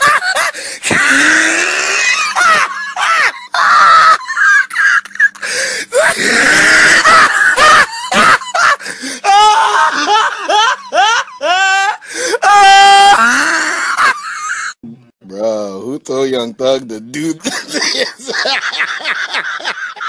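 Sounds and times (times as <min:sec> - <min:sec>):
person laughing hard: 0:00.0 - 0:14.8, 0:17.4 - 0:20.0.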